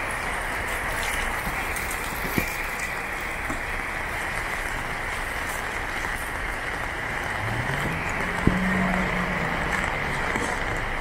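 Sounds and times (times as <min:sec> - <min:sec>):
rain falling on wet paving: 0:00.0 - 0:11.0.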